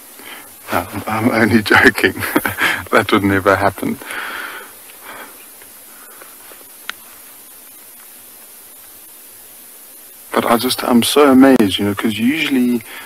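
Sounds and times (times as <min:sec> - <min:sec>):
high-pitched bush ambience hiss: 0:00.0 - 0:13.0.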